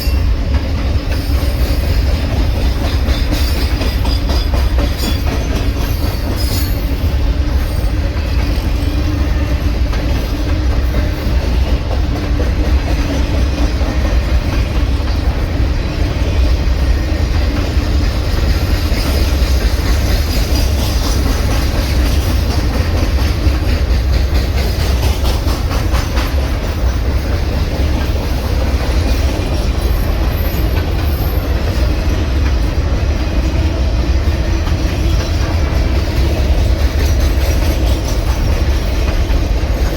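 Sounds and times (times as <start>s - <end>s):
train wheel squeal: 0.0s - 32.9s, 34.2s - 39.9s
freight train rumbling past: 0.0s - 39.9s.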